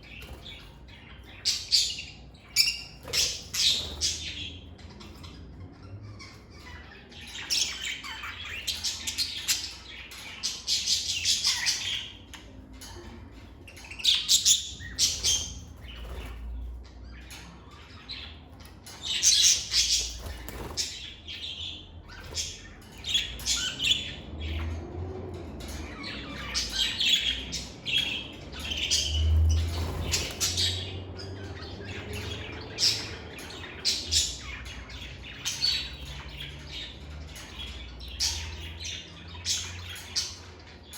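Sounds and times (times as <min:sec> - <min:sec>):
lovebirds chirping and squawking: 0:00.0 - 0:40.9.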